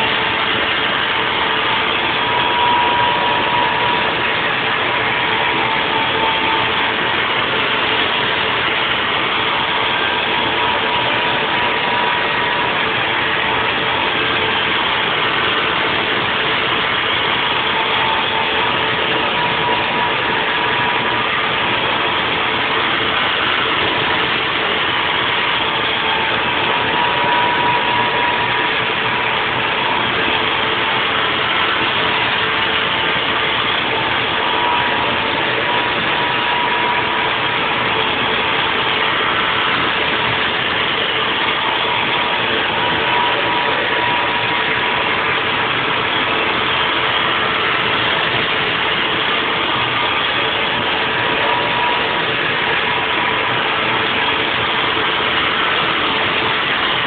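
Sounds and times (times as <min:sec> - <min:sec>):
milling machine whining: 0:00.0 - 0:57.0.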